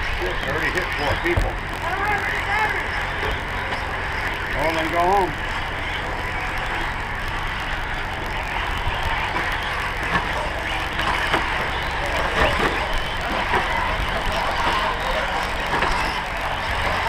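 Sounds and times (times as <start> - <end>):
rc truck engines buzzing: 0.0 - 17.0.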